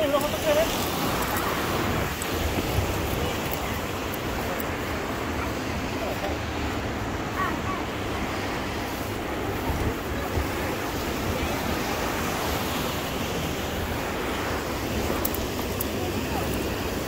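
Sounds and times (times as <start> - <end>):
sea surf on rocky shore: 0.0 - 17.0
wind on microphone: 0.0 - 17.0.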